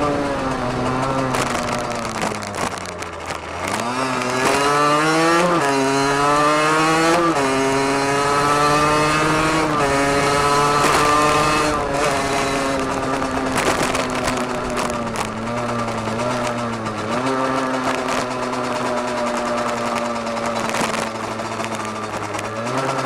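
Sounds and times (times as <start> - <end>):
two-stroke engine accelerating: 0.0 - 23.0.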